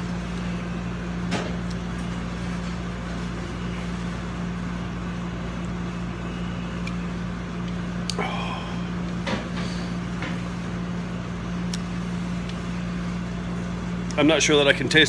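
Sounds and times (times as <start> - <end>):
exhaust hood fan humming: 0.0 - 15.0.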